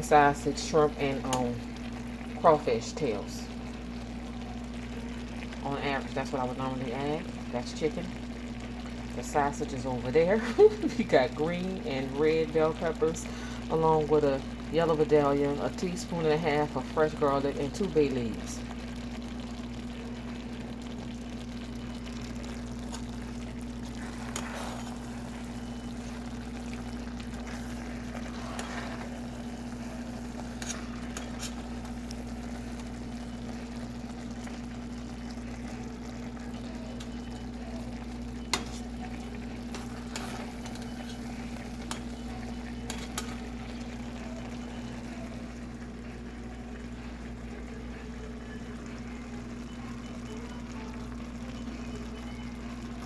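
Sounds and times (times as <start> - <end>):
food sizzling in a pot: 0.0 - 53.0
steady hum: 0.0 - 53.0.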